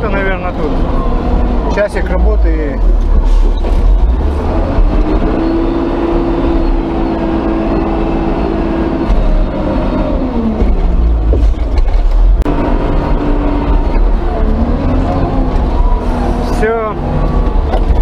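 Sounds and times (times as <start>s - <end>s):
loader diesel engine under load: 0.0s - 18.0s.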